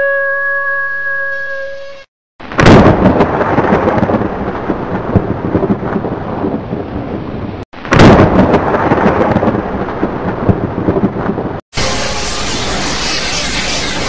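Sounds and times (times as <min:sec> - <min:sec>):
heavy rain: 0:02.4 - 0:14.0
thunder: 0:02.4 - 0:14.0.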